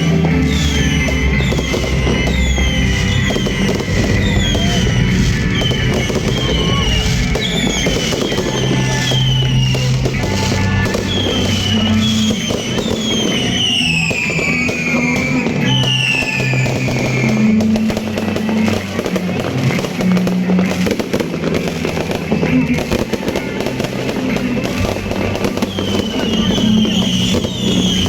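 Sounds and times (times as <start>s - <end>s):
fireworks crackling and popping: 0.0s - 28.0s
music with low bass line: 0.0s - 28.0s
whistling firework shells: 0.0s - 28.0s.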